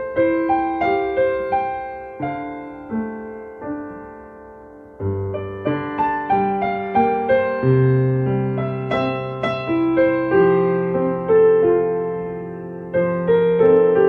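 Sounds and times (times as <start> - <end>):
soft solo piano music: 0.0 - 14.0.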